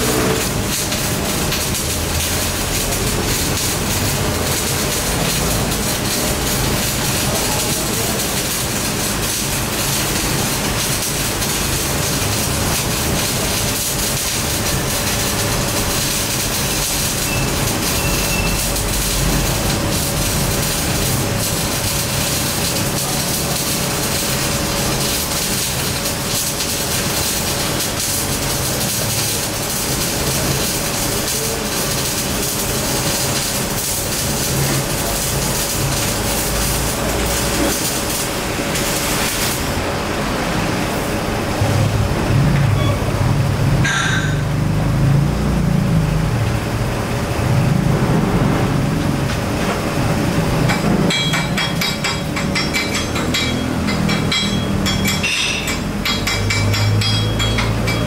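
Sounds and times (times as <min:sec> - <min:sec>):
welding hiss and crackle: 0:00.0 - 0:58.0.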